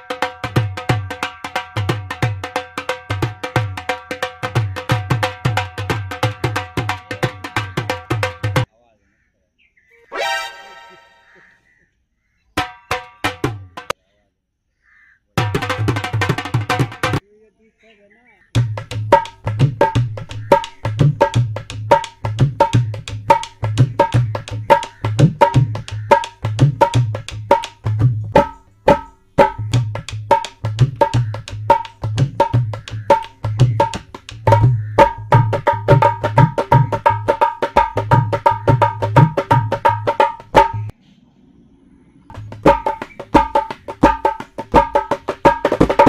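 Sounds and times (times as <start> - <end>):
music with fast percussion beat: 0.0 - 8.7, 12.6 - 13.9, 15.4 - 17.2, 18.6 - 40.9, 42.3 - 46.0.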